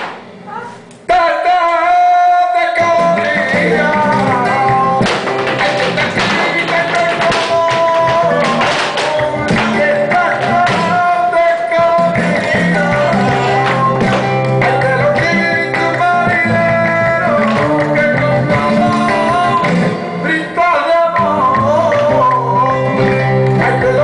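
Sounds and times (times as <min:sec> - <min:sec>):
flamenco singing: 0:00.0 - 0:24.0
guitar: 0:00.0 - 0:24.0.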